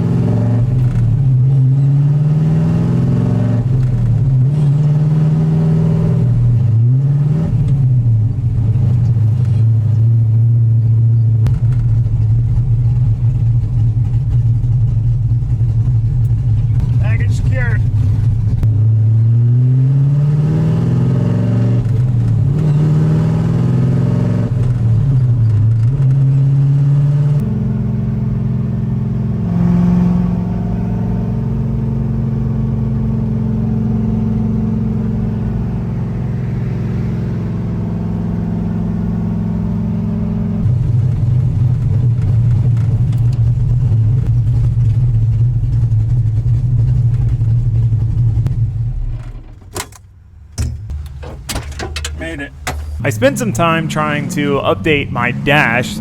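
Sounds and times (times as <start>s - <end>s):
car engine accelerating hard: 0.0s - 49.5s, 50.9s - 56.0s.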